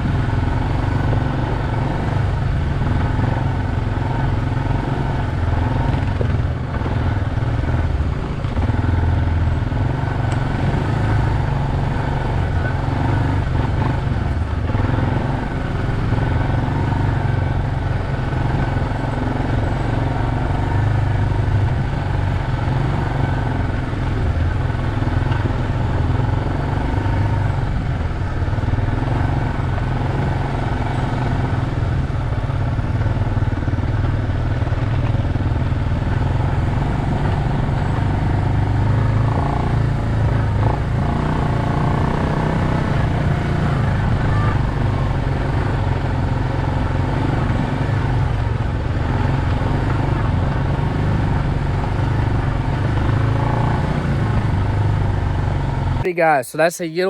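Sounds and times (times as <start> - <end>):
quad bike engine running: 0.0 - 56.4.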